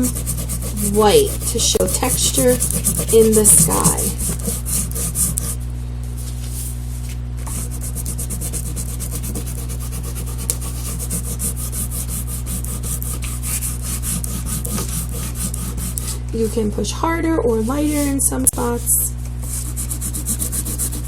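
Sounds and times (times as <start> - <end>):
crayon rubbing on paper: 0.0 - 5.6, 7.5 - 16.2, 17.6 - 21.0.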